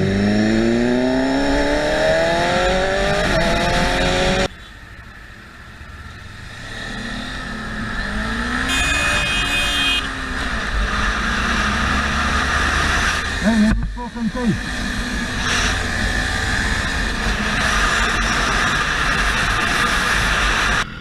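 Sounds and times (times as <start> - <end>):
vehicle engine accelerating hard: 0.0 - 4.5, 6.2 - 21.0
road noise: 0.0 - 21.0.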